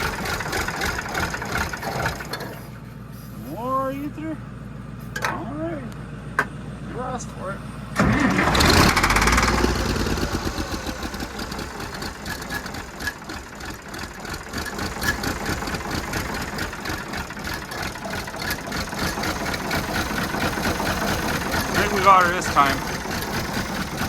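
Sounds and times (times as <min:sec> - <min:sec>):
old engine running unevenly: 0:00.0 - 0:24.0.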